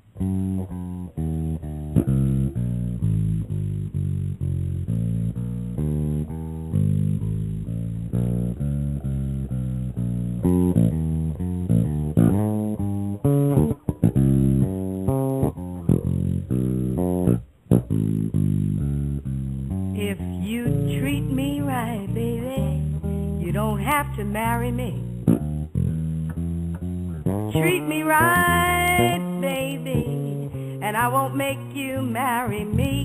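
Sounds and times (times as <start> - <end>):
electric bass guitar plucked notes: 0.0 - 33.0.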